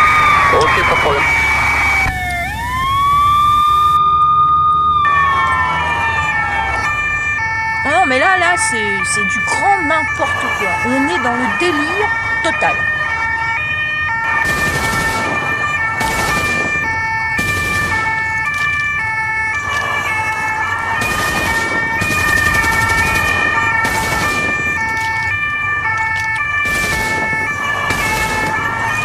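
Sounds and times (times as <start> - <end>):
two-tone emergency siren: 0.0 - 29.0.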